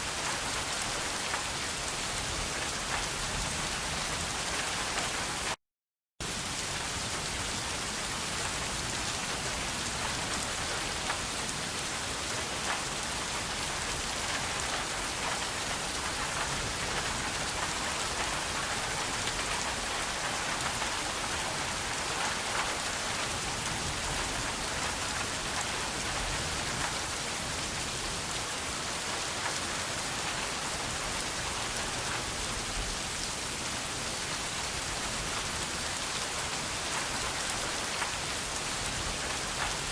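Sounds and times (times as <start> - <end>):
steady rain hiss: 0.0 - 5.6, 6.2 - 39.9.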